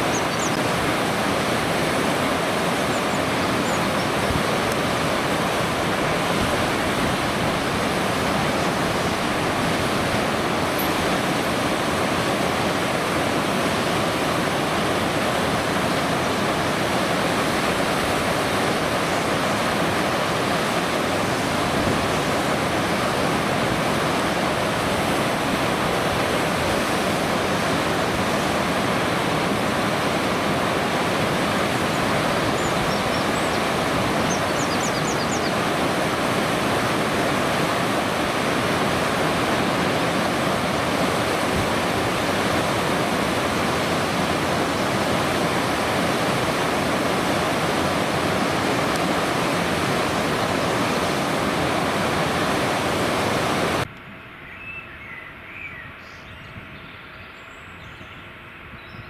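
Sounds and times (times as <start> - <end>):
rushing water: 0.0 - 53.9.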